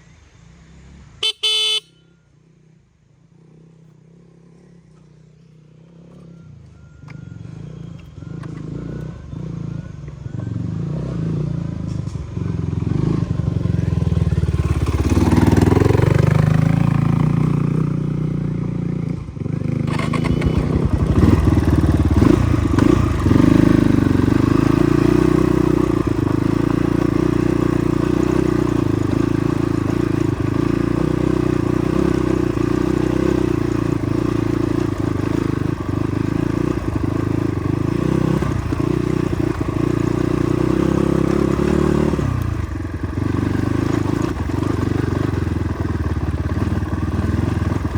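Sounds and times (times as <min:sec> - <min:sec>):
motorcycle engine running: 0:01.2 - 0:47.9.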